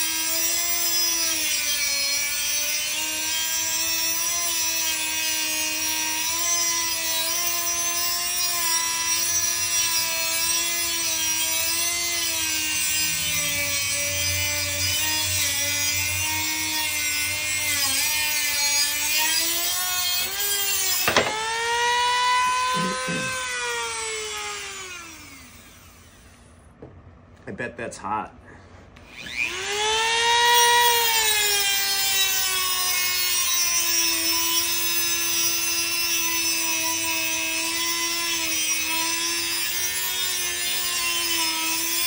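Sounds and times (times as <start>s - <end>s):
rotary tool grinding metal wire: 0.0s - 26.5s, 29.0s - 42.0s.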